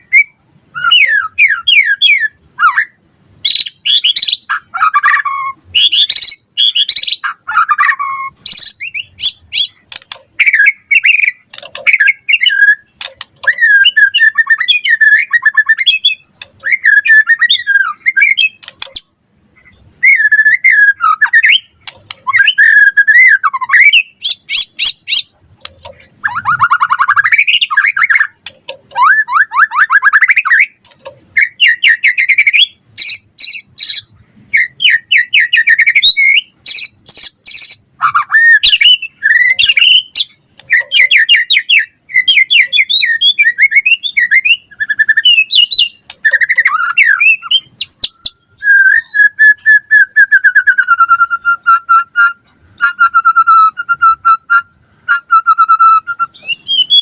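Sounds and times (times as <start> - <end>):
bird singing whistles and trills: 0.0 - 25.4, 26.0 - 57.0.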